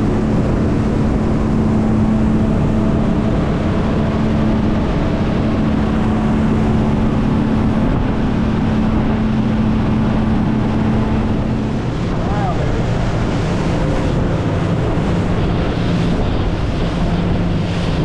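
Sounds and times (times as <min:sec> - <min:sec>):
outboard motor humming: 0:00.0 - 0:18.0
rushing water: 0:00.0 - 0:18.0
wind: 0:00.0 - 0:18.0.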